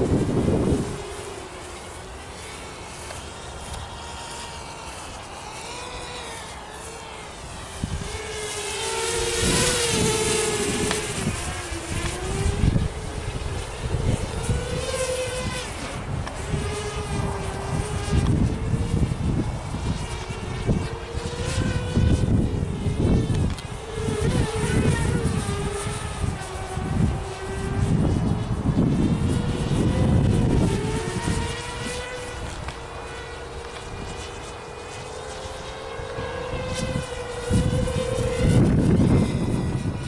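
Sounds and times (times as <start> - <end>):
quadcopter motors whining: 0.0 - 40.0
wind buffeting microphone: 0.0 - 40.0.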